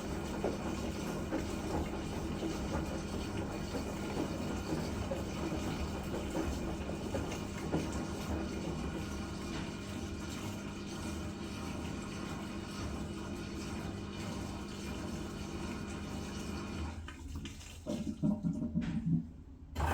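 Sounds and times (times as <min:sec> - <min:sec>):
washing machine motor hum: 0:00.0 - 0:19.9
water draining through pump: 0:00.0 - 0:19.9.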